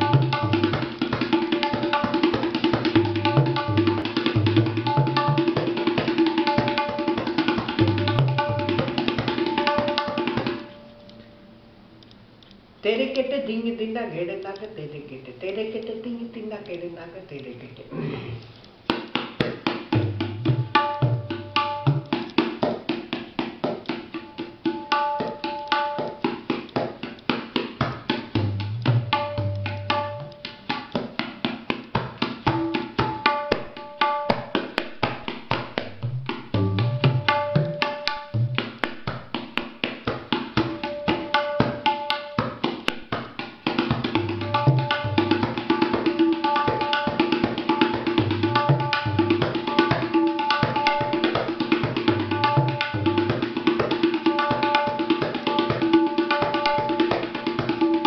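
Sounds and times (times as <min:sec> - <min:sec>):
ringing tabla strokes: 0:00.0 - 0:11.5, 0:18.9 - 0:58.0.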